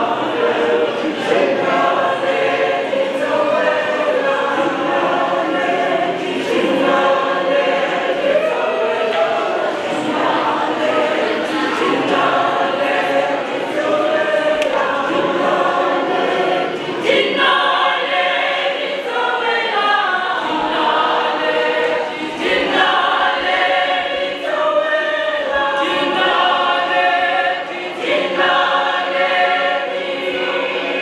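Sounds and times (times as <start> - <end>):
mixed choir singing unaccompanied: 0.0 - 31.0.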